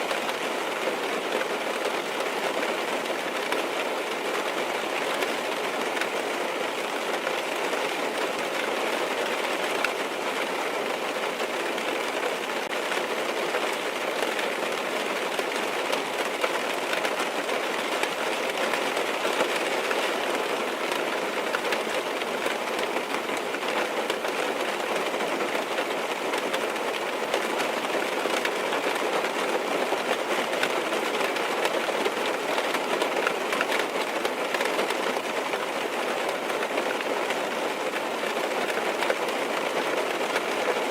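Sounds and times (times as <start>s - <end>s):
rain pattering on car roof: 0.0s - 40.9s.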